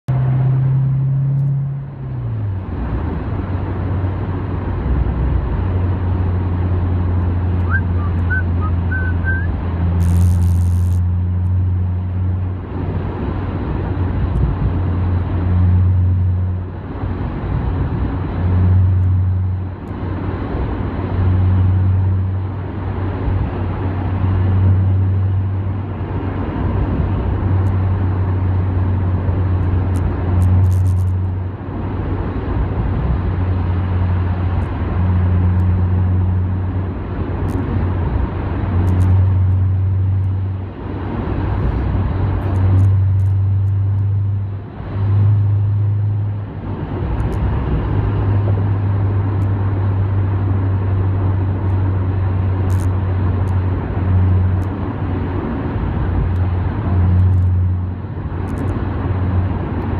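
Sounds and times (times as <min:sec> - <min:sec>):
car engine drone: 0:00.0 - 0:59.9
road rumble: 0:00.0 - 0:59.9.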